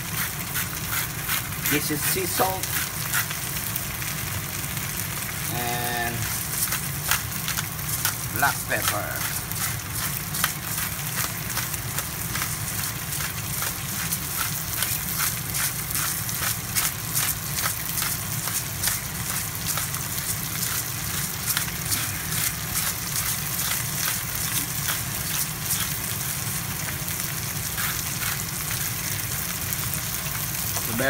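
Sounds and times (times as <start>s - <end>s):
seafood sizzling in a pan: 0.0s - 31.0s.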